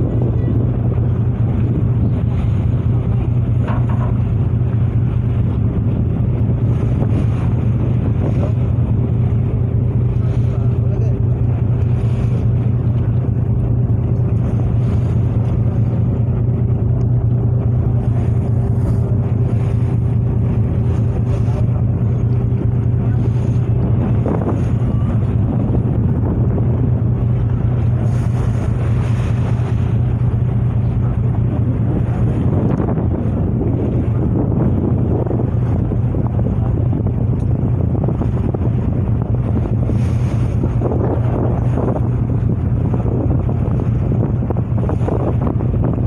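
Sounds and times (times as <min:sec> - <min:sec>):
high steady hum: 0:00.0 - 0:46.0
ship engines droning: 0:00.0 - 0:46.0
wind buffeting microphone: 0:00.0 - 0:46.0.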